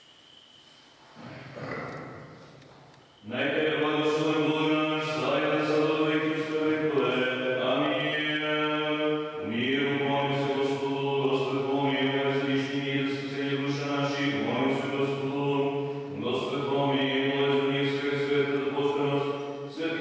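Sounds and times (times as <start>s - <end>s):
voices chanting slow melody: 3.0s - 20.0s.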